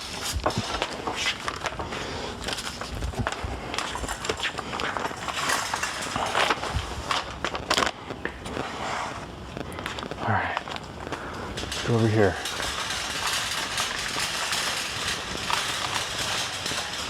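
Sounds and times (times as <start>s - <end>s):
shopping cart wheels rattling: 0.0s - 17.0s.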